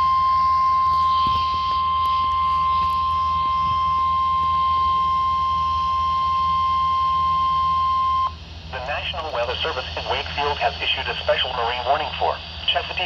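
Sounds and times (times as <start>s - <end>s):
long steady alarm tone: 0.0s - 13.0s
radio hum and hiss: 0.9s - 13.0s.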